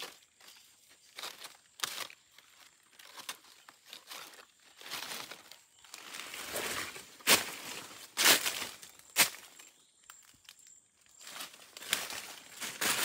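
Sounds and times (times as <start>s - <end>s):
dry leaves rustling: 0.0s - 13.0s
footsteps crunching on leaves: 0.0s - 13.0s.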